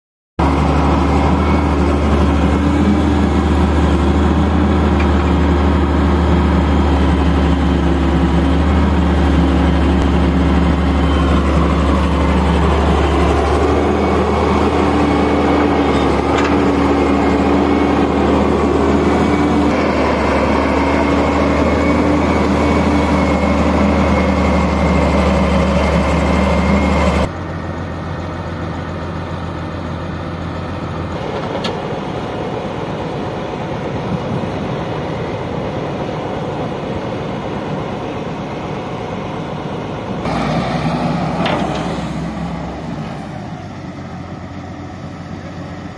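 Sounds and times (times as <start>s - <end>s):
excavator diesel engine running: 0.4s - 45.9s.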